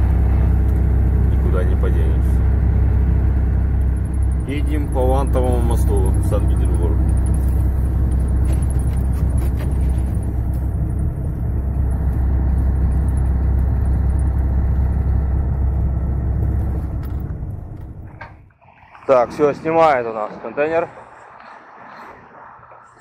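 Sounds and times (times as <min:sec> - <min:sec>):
road and tyre rumble: 0:00.0 - 0:23.0
truck engine drone: 0:00.0 - 0:23.0.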